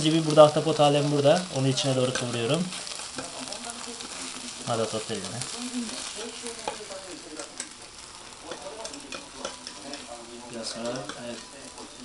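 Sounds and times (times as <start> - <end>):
batter sizzling in a pan: 0.0 - 12.0
metal skewers scraping a pan: 0.0 - 12.0.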